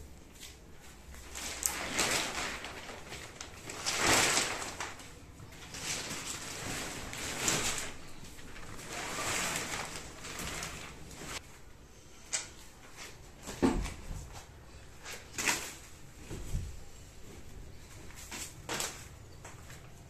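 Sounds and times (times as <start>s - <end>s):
plastic wrap rustling: 0.0s - 11.6s, 12.8s - 20.0s.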